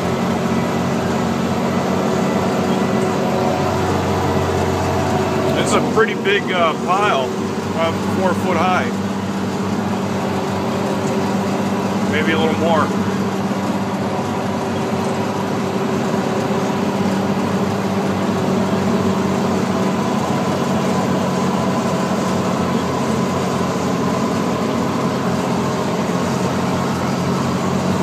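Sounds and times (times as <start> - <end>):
heavy diesel engine under load: 0.0 - 28.0.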